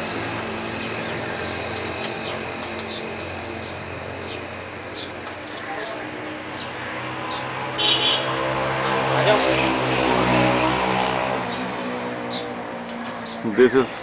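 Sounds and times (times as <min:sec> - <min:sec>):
birds chirping: 0:00.0 - 0:14.0
generator engine humming: 0:00.0 - 0:14.0.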